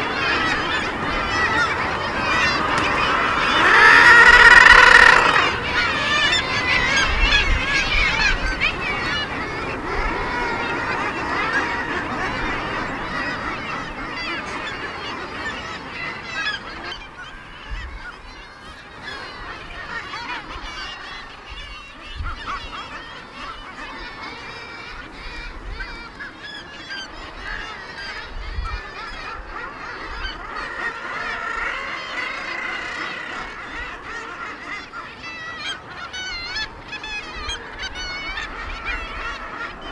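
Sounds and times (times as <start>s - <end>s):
seabirds calling: 0.0s - 39.9s.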